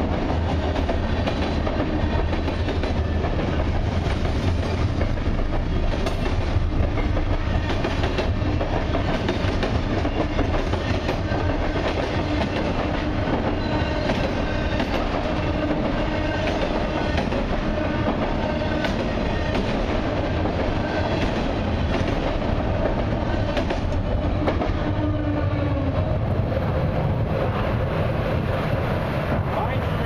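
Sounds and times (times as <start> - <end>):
clickety-clack over rail joints: 0.0 - 30.0
train wheels rumbling on rail: 0.0 - 30.0.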